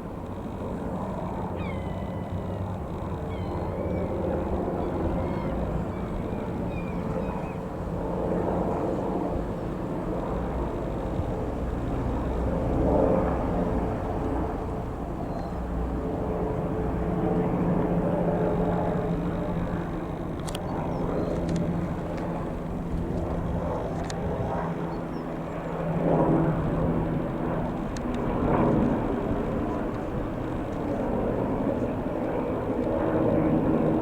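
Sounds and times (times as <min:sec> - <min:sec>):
helicopter engine and rotor rumble: 0:00.0 - 0:34.0.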